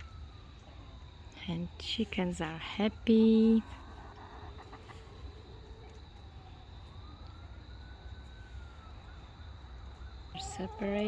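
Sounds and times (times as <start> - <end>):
faint siren wailing: 0.0 - 11.0.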